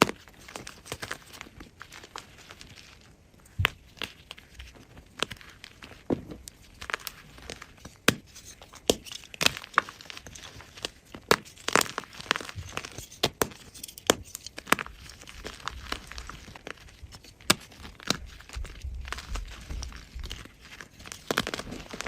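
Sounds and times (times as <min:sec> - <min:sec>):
chalk crumbling crunches: 0:00.0 - 0:22.0
chalk blocks cracking: 0:03.5 - 0:22.0.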